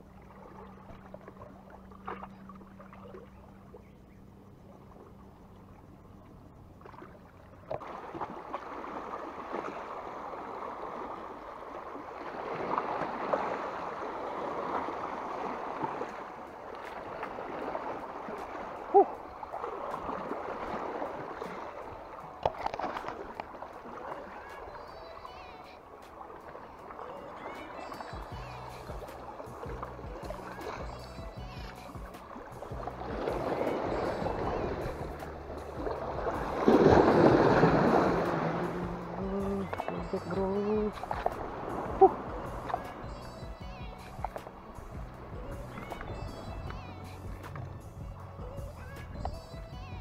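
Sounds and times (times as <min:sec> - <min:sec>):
seawater lapping against rocks: 0:00.0 - 0:50.0.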